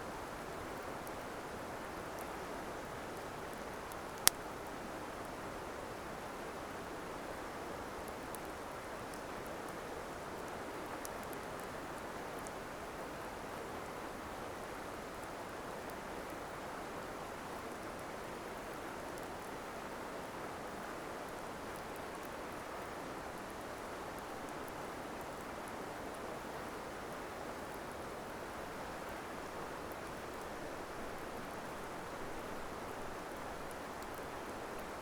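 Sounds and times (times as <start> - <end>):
campfire crackling: 0.1 - 35.0.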